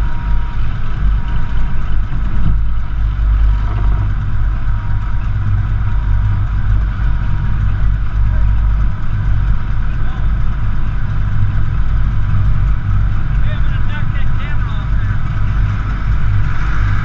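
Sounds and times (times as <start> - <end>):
pickup engine idling: 0.0 - 17.0
tractor engine running: 0.0 - 17.0.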